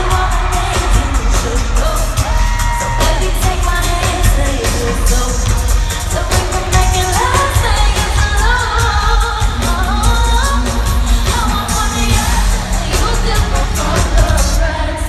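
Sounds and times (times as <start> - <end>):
heavy bass beat with drums: 0.0 - 15.0
woman singing: 0.0 - 15.0.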